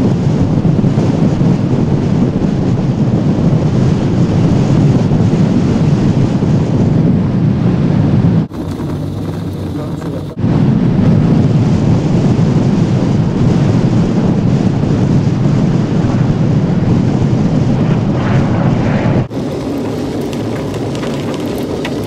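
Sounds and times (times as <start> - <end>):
land yacht rumble: 0.0 - 22.0
rush of wind: 0.0 - 22.0
wind buffeting microphone: 0.0 - 22.0.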